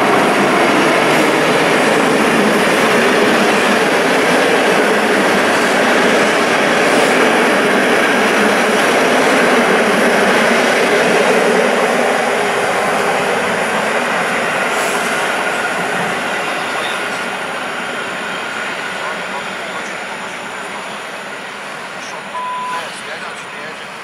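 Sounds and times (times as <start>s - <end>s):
train coaches rolling past: 0.0s - 24.0s.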